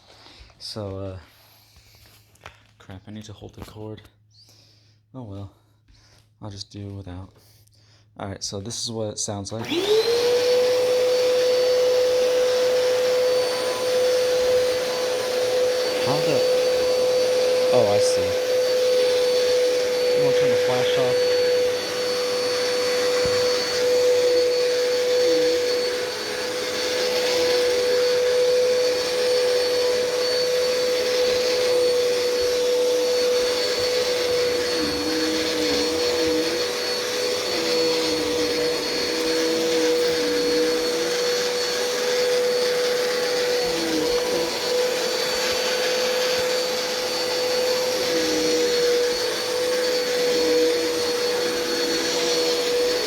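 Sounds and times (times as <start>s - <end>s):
vacuum cleaner running: 8.8s - 53.0s.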